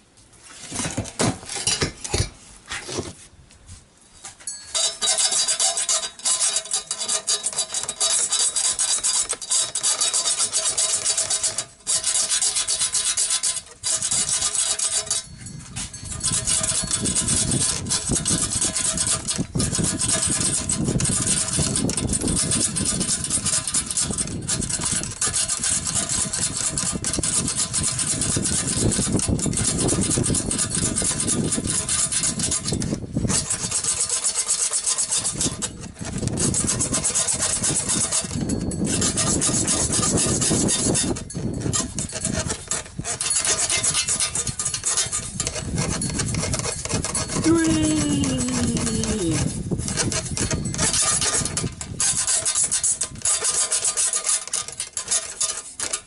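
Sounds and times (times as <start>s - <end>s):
scraping inside metal pipe: 4.2s - 56.0s.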